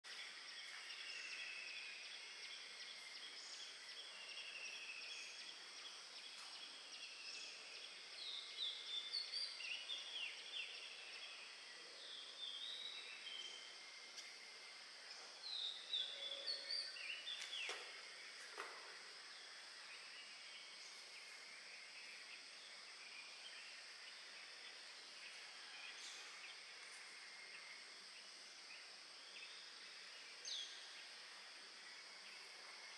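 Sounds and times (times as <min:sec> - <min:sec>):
birds chirping: 0:00.1 - 0:31.1
insects droning: 0:00.1 - 0:32.9.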